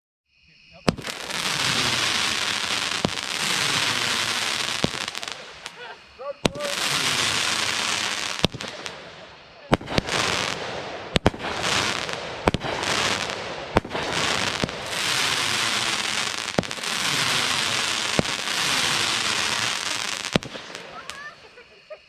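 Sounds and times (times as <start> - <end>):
firework launch reports: 0.7 - 21.7
firework crackling hiss: 0.8 - 22.0.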